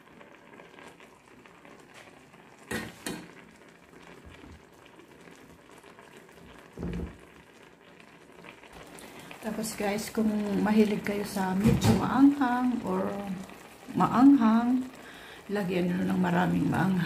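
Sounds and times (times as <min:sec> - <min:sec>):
food bubbling and sizzling in pan: 0:00.0 - 0:17.0.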